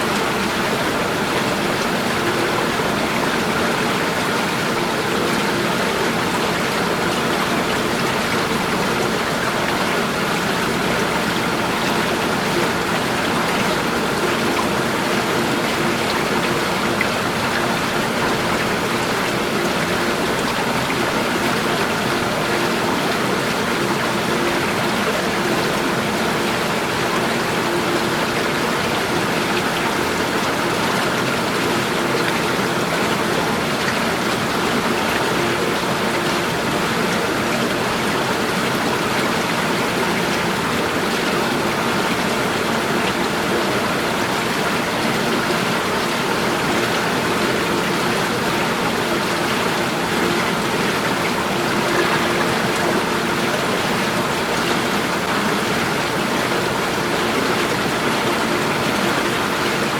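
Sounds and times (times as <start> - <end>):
water rushing and splashing: 0.0 - 59.9.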